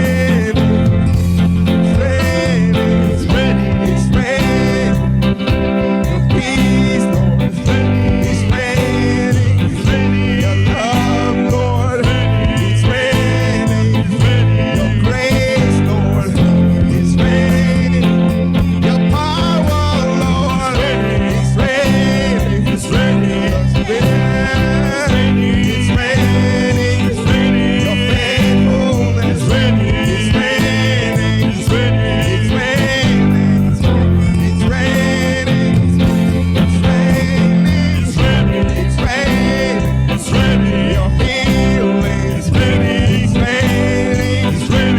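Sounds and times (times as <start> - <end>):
held bass notes: 0.0 - 44.9
person singing: 0.0 - 44.9
worship band music: 0.0 - 44.9.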